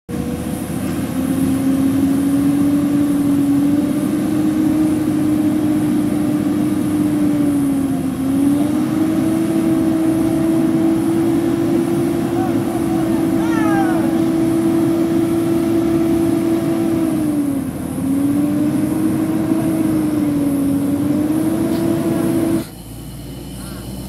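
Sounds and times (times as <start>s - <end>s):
truck engine revving high: 0.1s - 24.0s.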